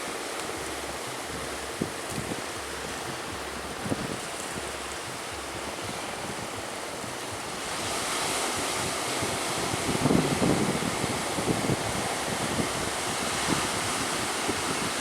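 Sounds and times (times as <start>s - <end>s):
sea waves rushing: 0.0s - 15.0s
strong wind: 0.0s - 15.0s
wind buffeting microphone: 0.0s - 15.0s.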